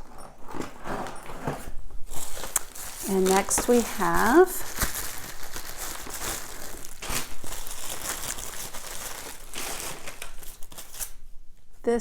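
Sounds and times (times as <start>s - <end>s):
wrapping crinkling and rustling: 0.0s - 11.7s.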